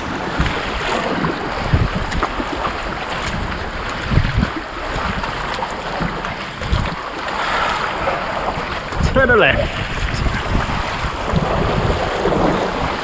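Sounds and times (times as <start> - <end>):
sea waves washing around rocks: 0.0 - 13.0
wind buffeting microphone: 0.0 - 13.0.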